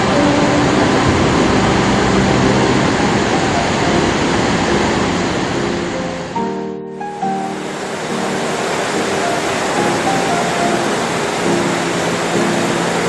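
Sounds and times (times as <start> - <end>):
flood water rushing roar: 0.0 - 13.0
music: 0.0 - 13.0.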